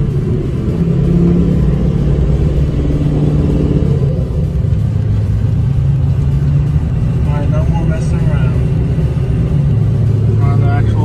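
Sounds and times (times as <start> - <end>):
pickup truck engine and road drone: 0.0 - 11.0.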